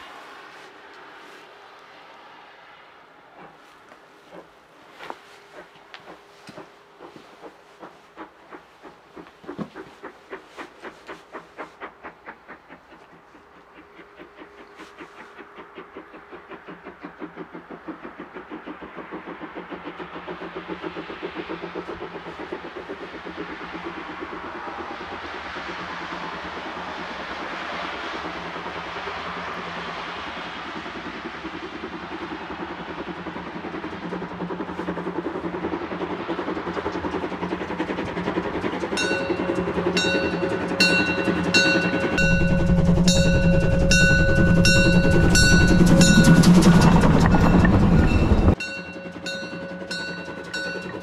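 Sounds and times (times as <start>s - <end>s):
steam locomotive exhaust chuffing: 0.0s - 51.0s.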